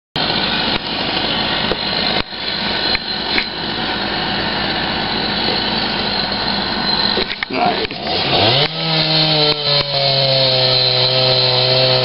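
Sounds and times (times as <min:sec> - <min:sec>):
chainsaw cutting tree: 0:00.2 - 0:12.0.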